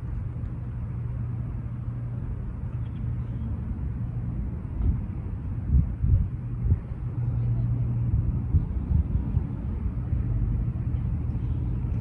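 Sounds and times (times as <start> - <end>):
low hum: 0.0 - 12.0
low rumble: 0.0 - 12.0.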